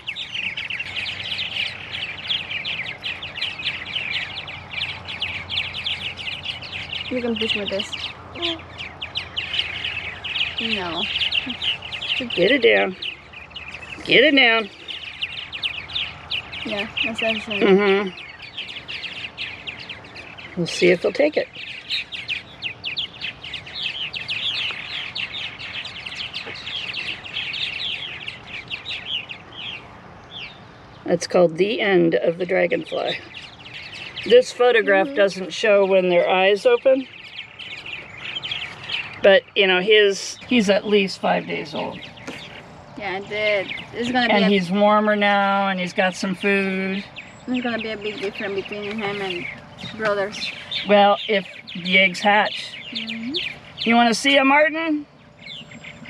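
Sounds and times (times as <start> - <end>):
birds chattering: 0.0 - 56.0.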